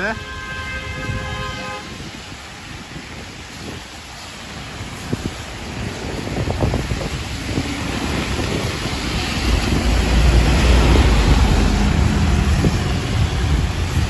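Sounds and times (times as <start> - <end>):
bus engine rumble: 0.0 - 14.0
tyres hissing on wet road: 0.0 - 14.0.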